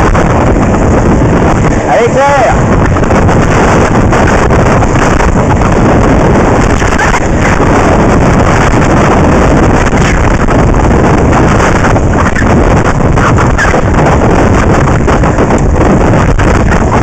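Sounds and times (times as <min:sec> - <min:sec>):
skate wheels rumbling on asphalt: 0:00.0 - 0:17.0
wind buffeting microphone: 0:00.0 - 0:17.0.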